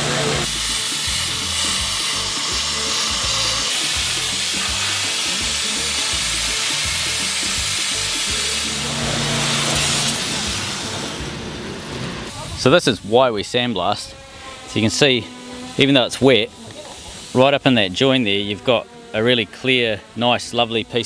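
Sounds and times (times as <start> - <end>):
sandblaster hissing on metal: 0.0 - 21.0.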